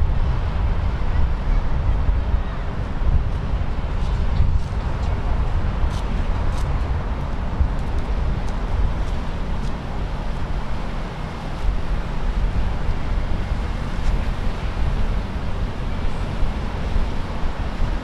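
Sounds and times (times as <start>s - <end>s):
boat engine rumble: 0.0s - 18.0s
wind buffeting microphone: 0.0s - 18.0s.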